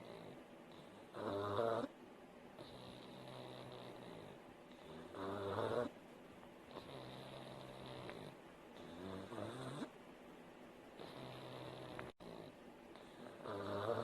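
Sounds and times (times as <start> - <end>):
dog snoring: 0.0 - 2.0, 2.6 - 6.0, 6.7 - 10.0, 11.0 - 14.0.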